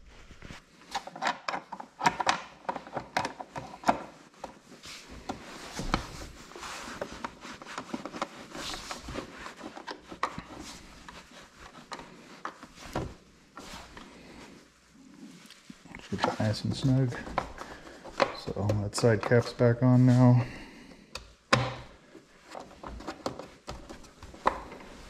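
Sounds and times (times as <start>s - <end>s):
rubbing and scraping: 0.0s - 20.5s.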